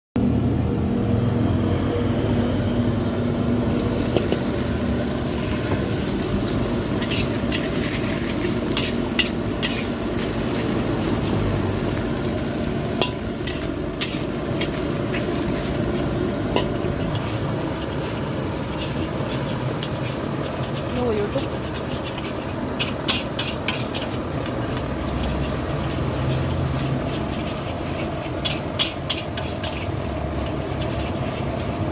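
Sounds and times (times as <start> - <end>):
food sizzling in a wok: 0.2 - 31.9
metal spatula scraping a pan: 3.8 - 31.9.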